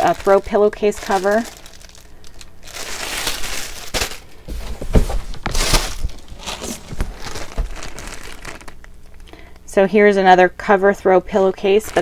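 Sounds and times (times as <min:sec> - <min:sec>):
plastic packaging crinkling: 0:00.0 - 0:09.4, 0:11.4 - 0:12.0.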